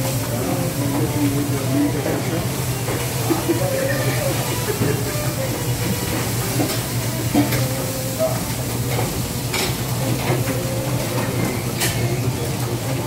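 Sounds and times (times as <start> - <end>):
offal sizzling in a pan: 0.0 - 13.0.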